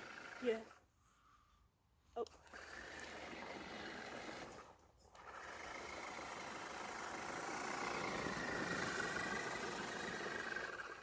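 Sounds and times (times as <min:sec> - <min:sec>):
electric motor whining: 0:00.0 - 0:00.8, 0:02.4 - 0:11.0.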